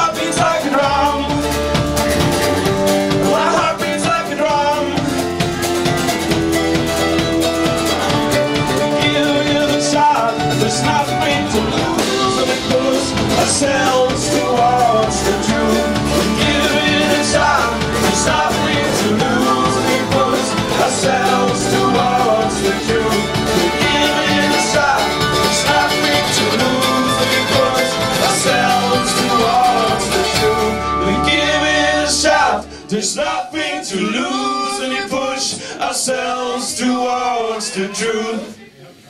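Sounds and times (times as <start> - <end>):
electric and bass guitars: 0.0 - 34.8
acoustic guitar: 0.0 - 39.0
banjo: 0.0 - 39.0
drums: 0.0 - 39.0.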